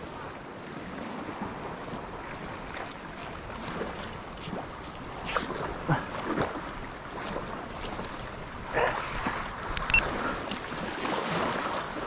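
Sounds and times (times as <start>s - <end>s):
sea water lapping at shore: 0.0s - 12.0s
wind on microphone: 0.0s - 12.0s.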